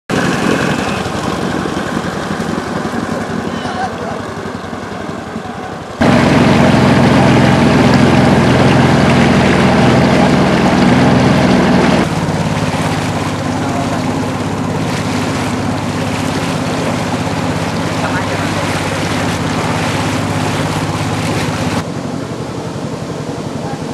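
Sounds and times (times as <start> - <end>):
boat motor running: 0.0 - 23.9.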